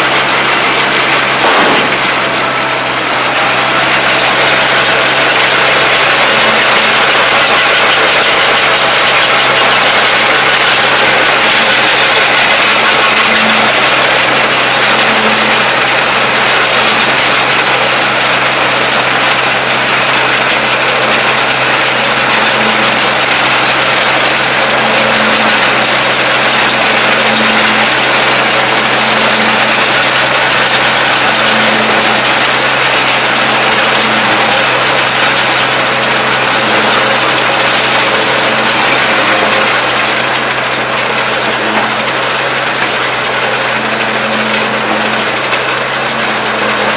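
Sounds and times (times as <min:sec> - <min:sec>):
baler rollers running: 0:00.0 - 0:46.9
diesel tractor engine under load: 0:00.0 - 0:46.9.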